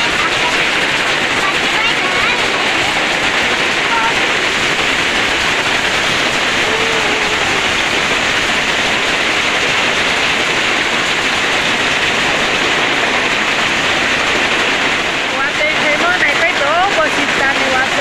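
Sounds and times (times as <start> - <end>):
heavy rain on a tin roof: 0.0 - 18.0
wind gusting in trees: 0.0 - 18.0.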